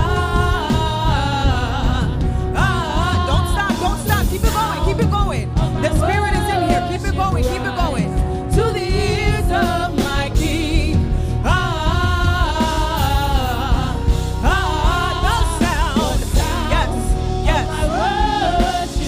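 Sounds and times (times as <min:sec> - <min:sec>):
gospel band with steady percussion: 0:00.0 - 0:19.0.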